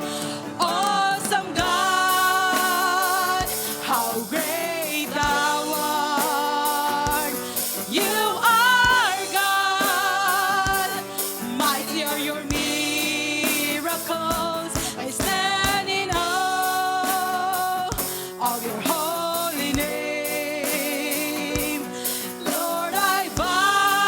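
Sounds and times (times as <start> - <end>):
lead singer holding long notes: 0.0 - 24.0
steady drum beat: 0.0 - 24.0.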